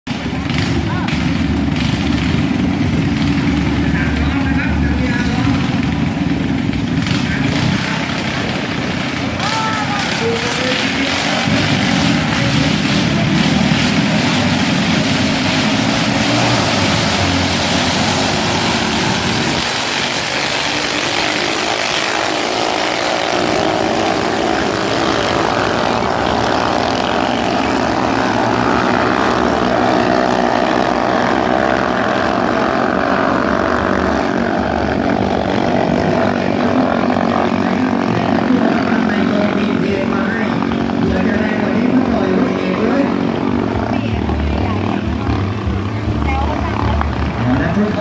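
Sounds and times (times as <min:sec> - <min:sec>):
motorboat engines droning: 0:00.1 - 0:48.0.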